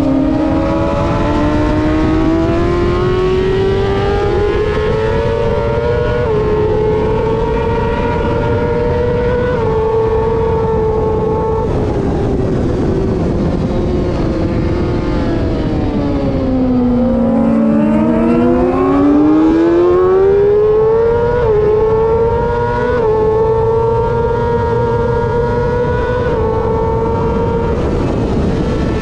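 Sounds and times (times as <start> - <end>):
motorcycle engine revving: 0.0 - 29.0
wind rush: 0.0 - 29.0.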